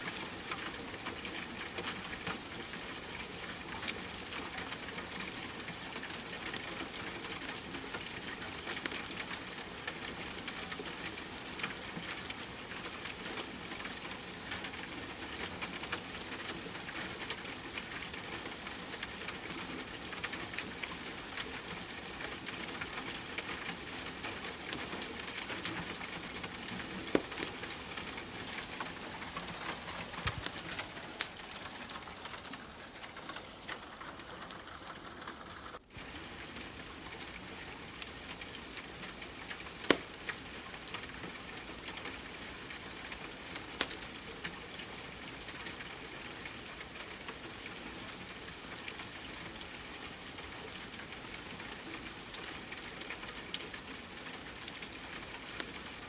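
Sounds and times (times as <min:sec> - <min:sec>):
wood fire crackling: 0:00.0 - 0:45.2
steady rain hiss: 0:00.0 - 0:56.0.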